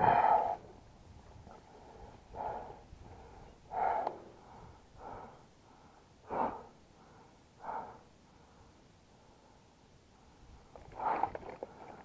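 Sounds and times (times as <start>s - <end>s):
person breathing hard: 0.0s - 0.7s, 1.5s - 12.0s.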